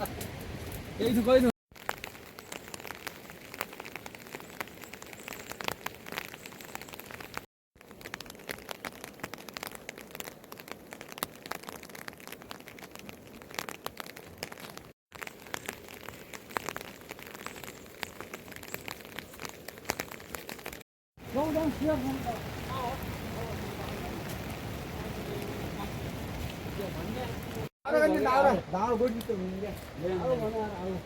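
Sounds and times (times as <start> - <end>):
rain pattering: 0.0 - 31.0.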